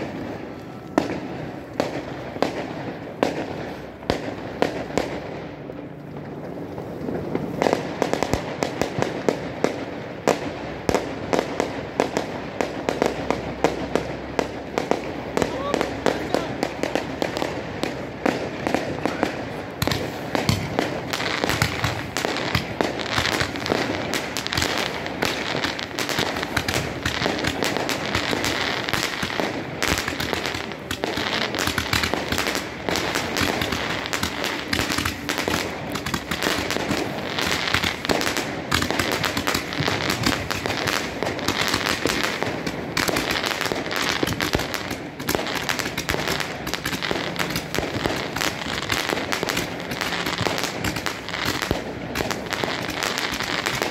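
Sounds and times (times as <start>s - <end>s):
fireworks crackling: 0.0s - 53.9s.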